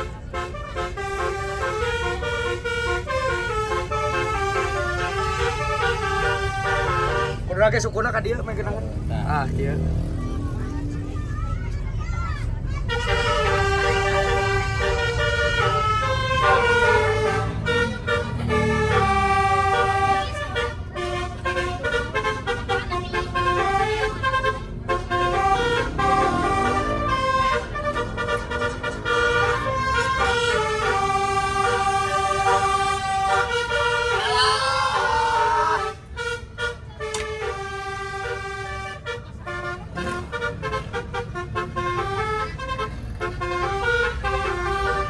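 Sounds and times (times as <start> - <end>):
bus air horn melody: 0.0 - 7.6, 12.7 - 45.0.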